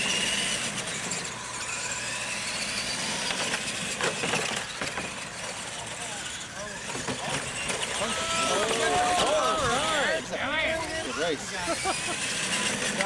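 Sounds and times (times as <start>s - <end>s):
toy truck motors whining: 0.0s - 13.0s.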